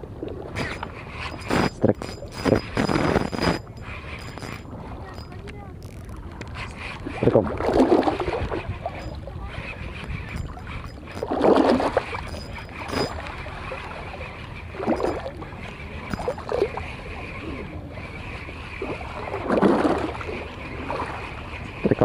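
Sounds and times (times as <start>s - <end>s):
water sloshing against seawall: 0.0s - 22.0s
fishing reel winding: 0.6s - 22.0s.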